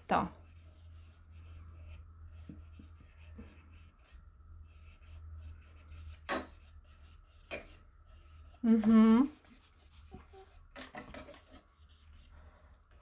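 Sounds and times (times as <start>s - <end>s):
paintbrush brushing on canvas: 0.3s - 10.7s, 11.4s - 12.6s.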